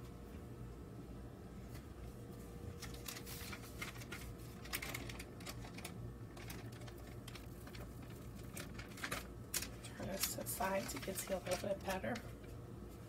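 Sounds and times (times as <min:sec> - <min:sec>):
baking parchment crinkling: 0:01.7 - 0:13.0.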